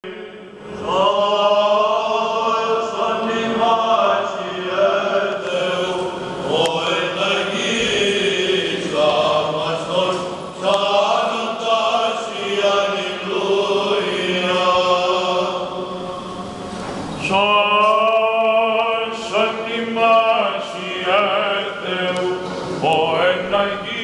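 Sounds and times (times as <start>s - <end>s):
low held vocal drone: 0.0s - 24.0s
voices chanting: 0.1s - 24.0s.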